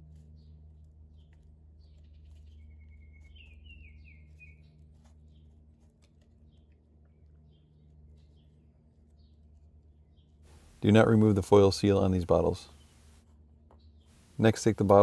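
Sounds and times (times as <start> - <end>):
faint birdsong chirps: 0.0 - 15.0
low steady hum: 0.0 - 15.0.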